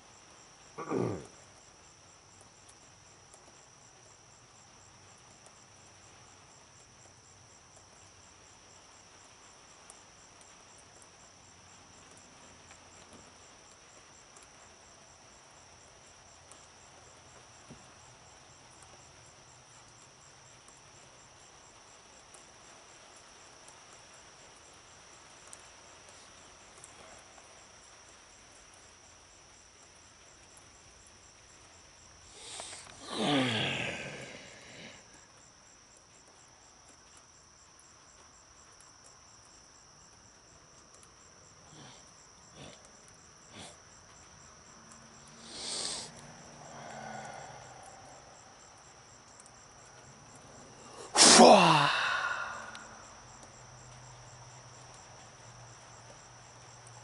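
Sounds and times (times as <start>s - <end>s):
faint ticks: 0.0s - 33.1s, 34.0s - 51.0s, 52.6s - 57.0s
crickets trilling: 0.0s - 57.0s.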